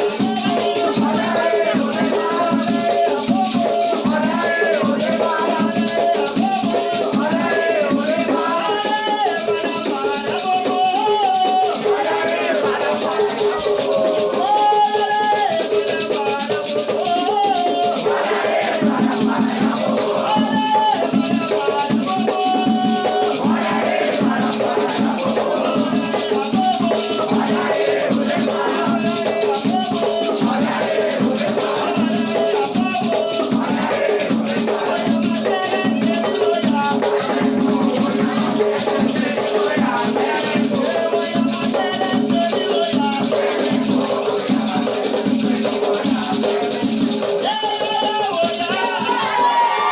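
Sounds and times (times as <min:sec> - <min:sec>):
chanted singing: 0:00.0 - 0:49.9
drumming: 0:00.0 - 0:49.9.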